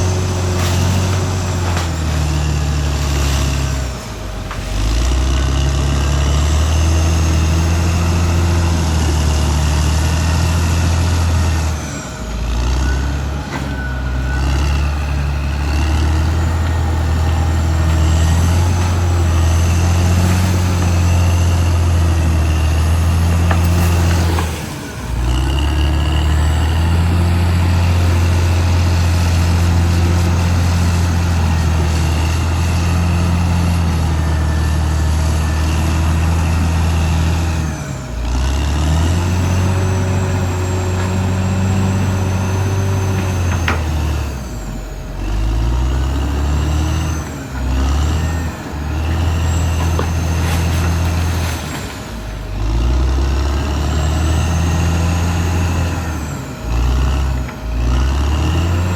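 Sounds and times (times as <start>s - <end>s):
bulldozer diesel engine running: 0.0s - 58.9s.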